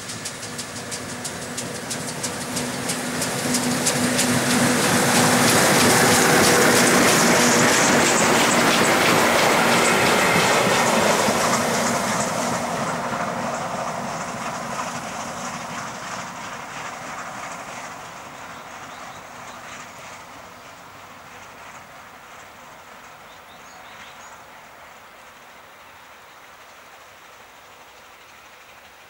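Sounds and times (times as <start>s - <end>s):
train passing: 0.0s - 29.0s
wheels clicking over rail joints: 0.0s - 29.0s.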